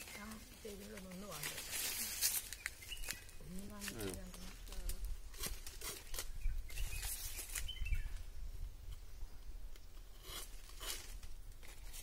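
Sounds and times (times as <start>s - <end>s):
leaves scraping against metal bowl: 0.0s - 7.8s, 10.1s - 12.0s.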